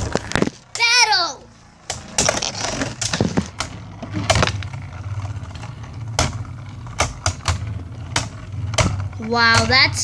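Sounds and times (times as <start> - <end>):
spinning tops whirring: 0.0 - 10.0.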